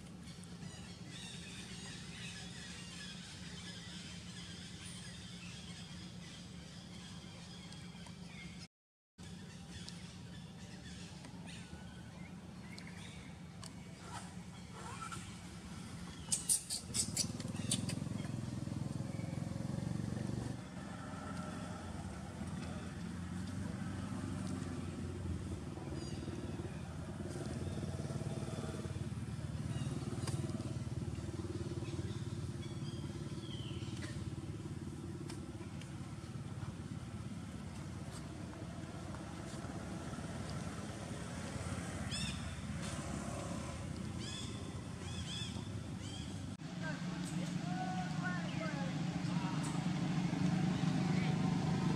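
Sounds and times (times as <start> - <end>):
engine droning: 9.8 - 51.9.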